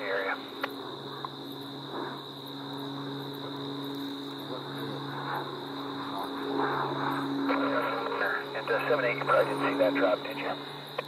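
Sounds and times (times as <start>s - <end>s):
propeller engines humming: 0.0s - 11.0s.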